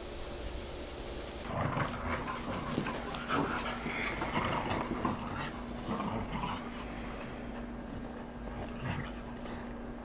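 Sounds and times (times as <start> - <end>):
dogs growling and yipping: 1.4 - 10.0
scuffling of paws: 1.5 - 10.0.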